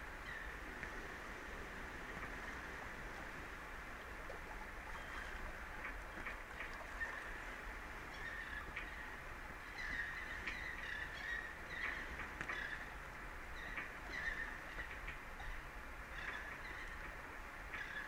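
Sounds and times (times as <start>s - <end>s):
low rumble of wind and sea: 0.0s - 18.0s.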